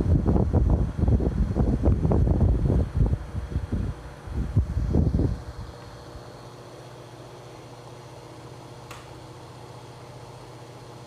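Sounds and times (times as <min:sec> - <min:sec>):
fan motor hum: 0:00.0 - 0:11.0.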